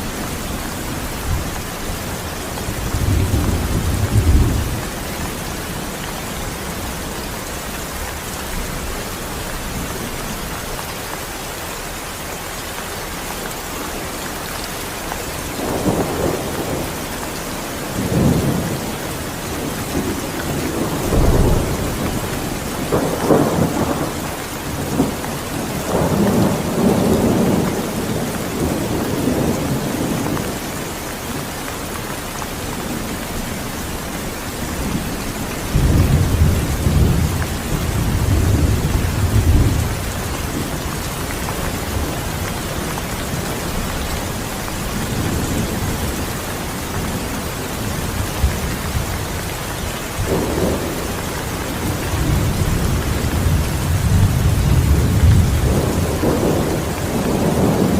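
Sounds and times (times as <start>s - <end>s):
rolling thunder: 0.0s - 10.5s, 15.4s - 17.1s, 17.8s - 30.6s, 32.8s - 46.2s, 47.0s - 57.9s
heavy rain falling: 0.0s - 57.9s.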